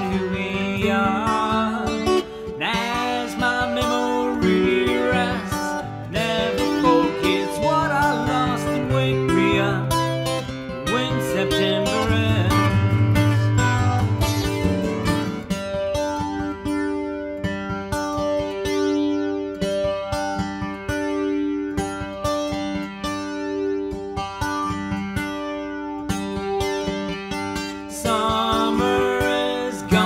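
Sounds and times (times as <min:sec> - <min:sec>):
acoustic guitar playing: 0:00.0 - 0:30.0.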